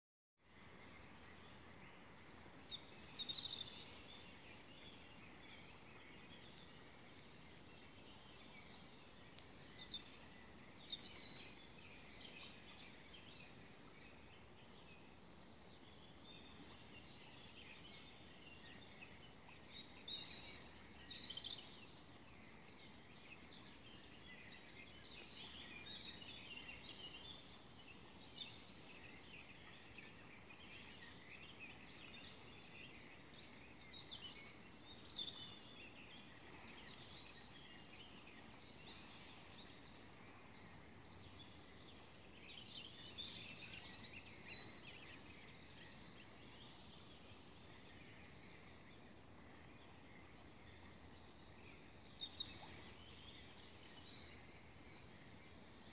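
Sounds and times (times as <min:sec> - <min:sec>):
faint steady background hiss: 0:00.4 - 0:55.9.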